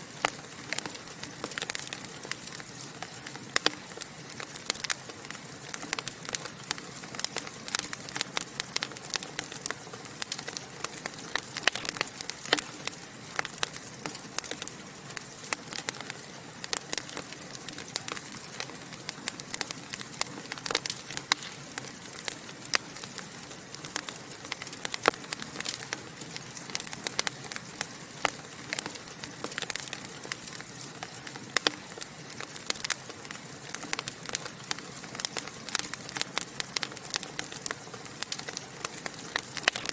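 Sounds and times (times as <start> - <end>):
fireplace fire crackling and popping: 0.0 - 39.9.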